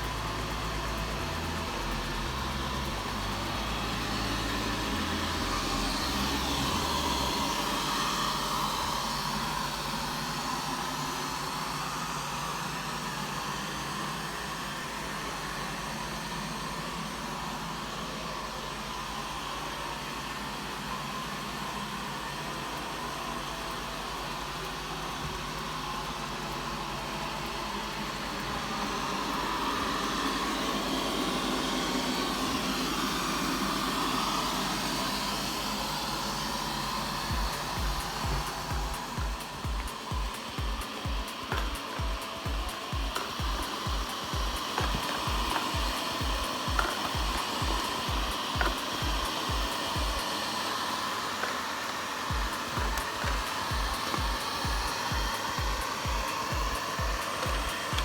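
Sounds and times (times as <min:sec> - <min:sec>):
robot vacuum cleaner humming: 0:00.0 - 0:58.0.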